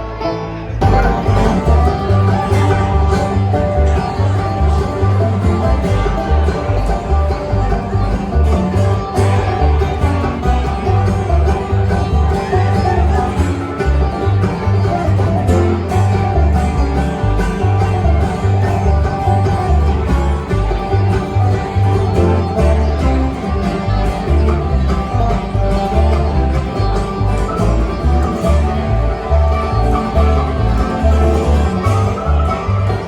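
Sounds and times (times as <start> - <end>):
banjo picking: 0.0 - 33.0
bass line: 0.0 - 33.0
guitar picking: 0.0 - 33.0.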